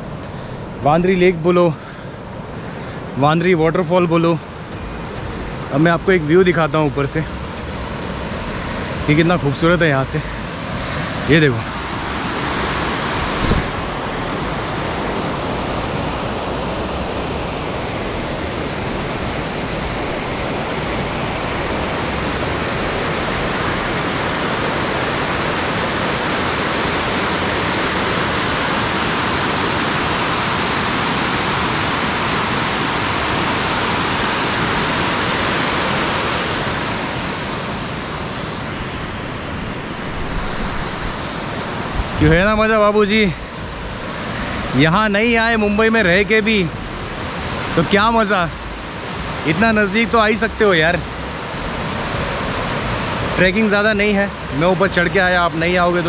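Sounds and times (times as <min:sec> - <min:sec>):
water rushing over weir: 0:00.0 - 0:56.0.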